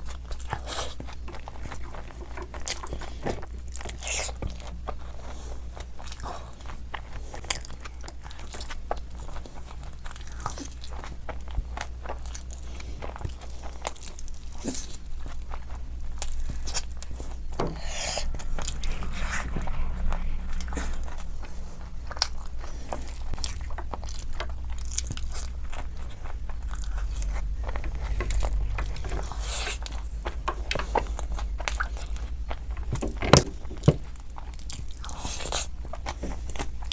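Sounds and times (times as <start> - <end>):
chewing crispy fried food: 0.0 - 36.9
low hum: 0.0 - 36.9.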